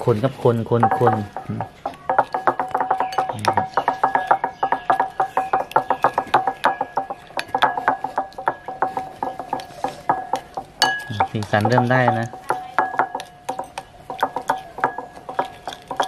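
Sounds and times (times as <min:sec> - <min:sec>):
metal spoon clinking in bowl: 0:00.8 - 0:16.0.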